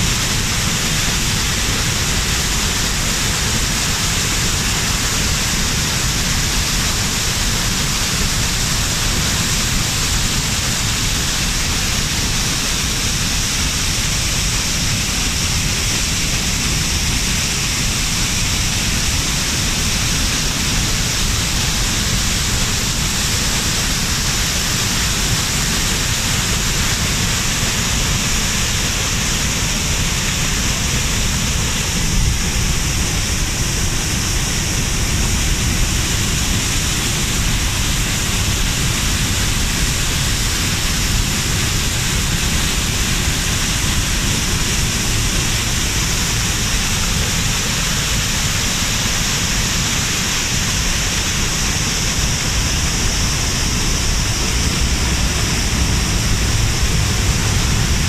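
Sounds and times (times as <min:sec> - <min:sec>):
floodwater rushing over rocks: 0:00.0 - 0:58.0.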